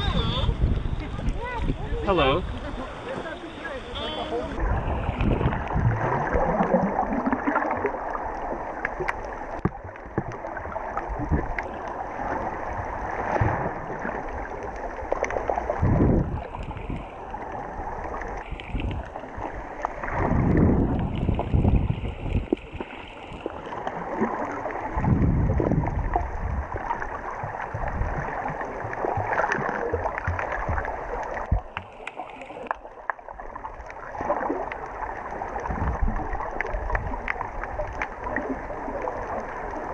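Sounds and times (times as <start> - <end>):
muffled water rushing underwater: 0.0 - 39.9.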